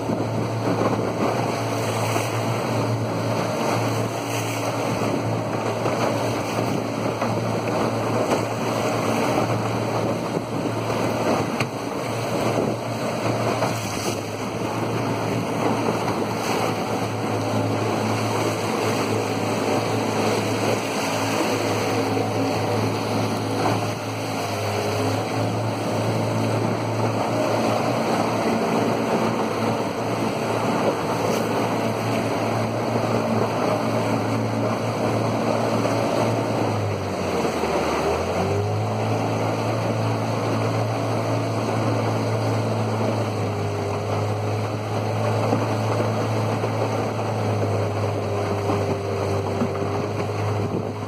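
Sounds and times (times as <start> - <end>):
boat motor humming: 0.0 - 51.0
water rushing past hull: 0.0 - 51.0
wind on microphone: 0.0 - 51.0.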